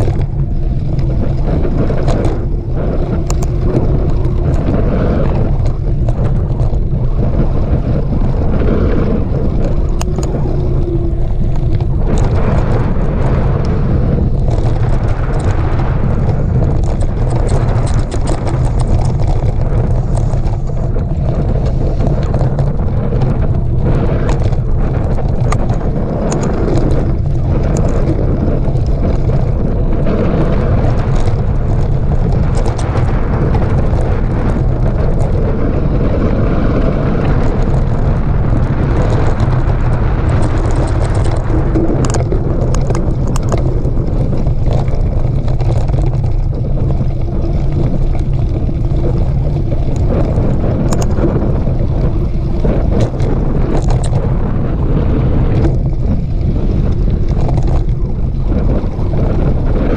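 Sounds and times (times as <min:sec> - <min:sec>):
bike rattling and clicking: 0:00.0 - 0:59.9
wind buffeting microphone: 0:00.0 - 0:59.9.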